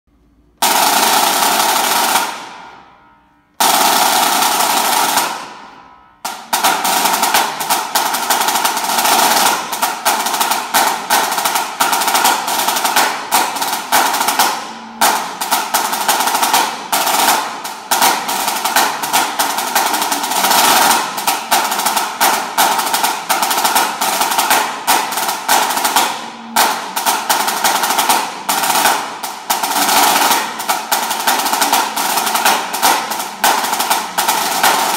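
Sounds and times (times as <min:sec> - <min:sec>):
snare drum rolls: 0:00.6 - 0:02.9, 0:03.6 - 0:34.9.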